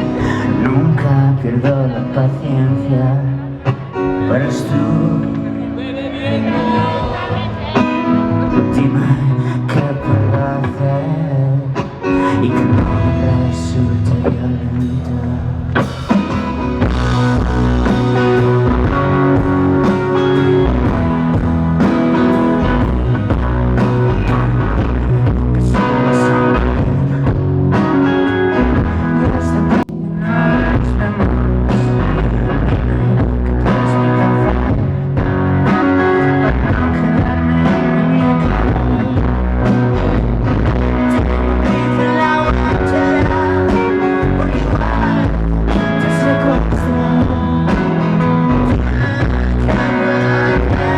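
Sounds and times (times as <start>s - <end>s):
live rock band playing: 0.0s - 50.9s.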